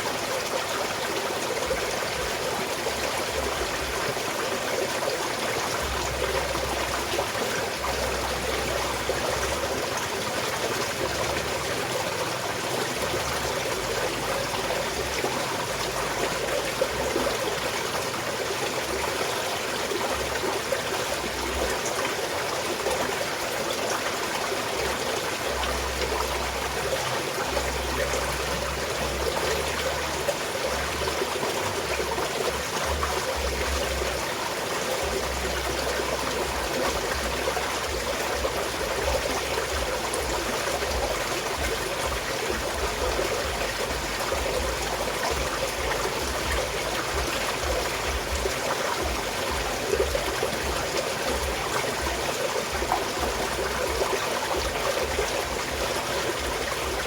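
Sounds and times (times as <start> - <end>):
mountain stream trickling: 0.0 - 57.0.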